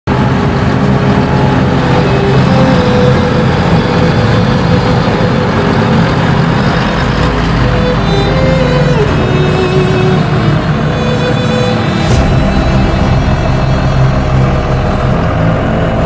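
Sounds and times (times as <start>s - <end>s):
tractor engine running: 0.1s - 16.0s.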